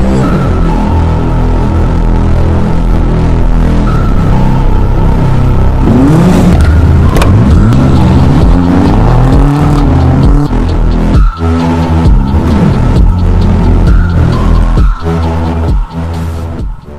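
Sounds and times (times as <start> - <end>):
background music: 0.0 - 16.9
car engine revving: 0.0 - 16.9.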